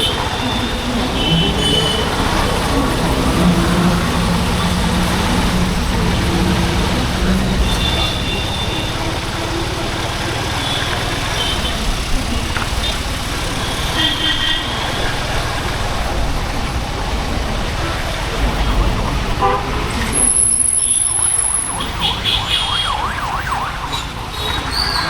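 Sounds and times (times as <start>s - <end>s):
motorcycle engine running: 0.0s - 23.2s
wind and road rush: 0.0s - 25.0s.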